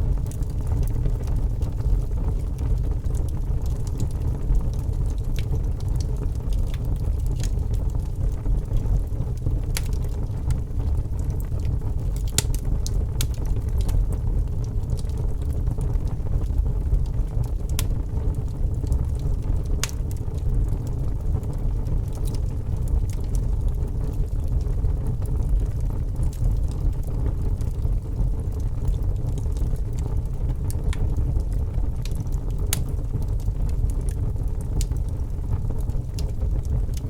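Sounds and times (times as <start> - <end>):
burning wood crackling: 0.0 - 37.0
fire rumbling: 0.0 - 37.0.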